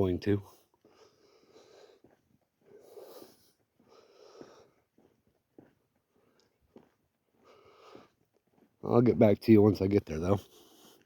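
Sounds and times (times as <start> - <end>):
man breathing heavily: 0.4 - 8.8, 10.4 - 11.0.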